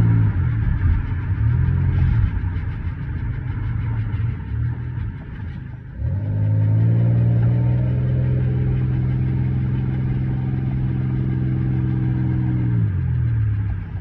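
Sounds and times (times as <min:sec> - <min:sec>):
car engine running while driving: 0:00.0 - 0:14.0.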